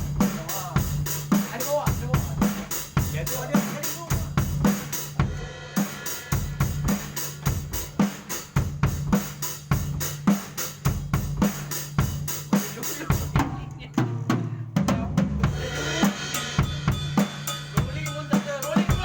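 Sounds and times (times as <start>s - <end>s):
kick and snare drum beat: 0.0s - 19.0s.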